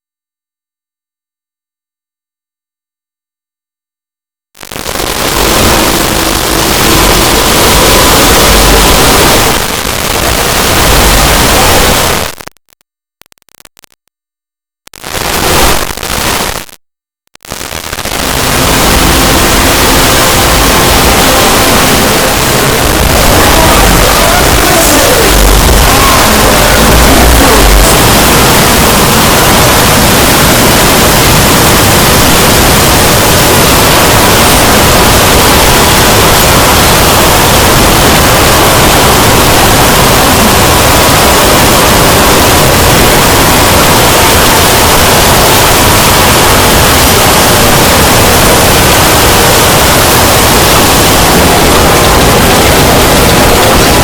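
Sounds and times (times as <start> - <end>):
loud static hiss: 4.6 - 12.6, 13.2 - 14.0, 14.9 - 16.8, 17.4 - 54.0.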